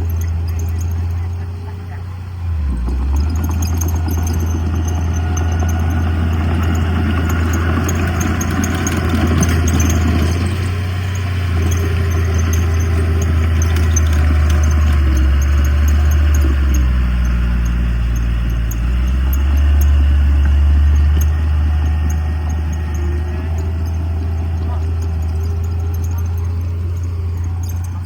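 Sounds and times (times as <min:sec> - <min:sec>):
diesel engine running: 0:00.0 - 0:28.0
machine clatter: 0:02.7 - 0:28.0.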